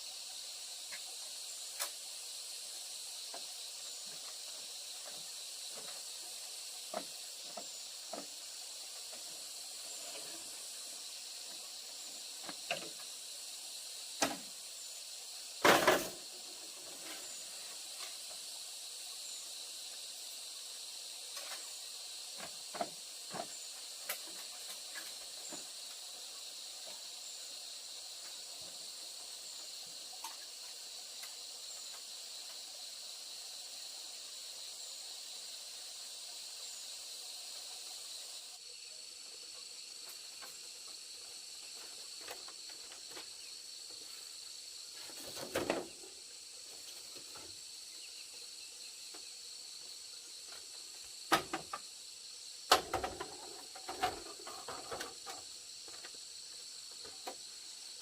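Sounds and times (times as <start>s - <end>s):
high-pitched insect hiss: 0.0s - 58.0s.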